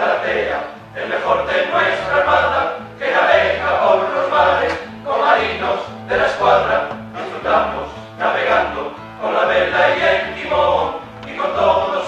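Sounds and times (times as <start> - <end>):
guitar accompaniment: 0.0 - 12.0
male choir singing: 0.0 - 12.0.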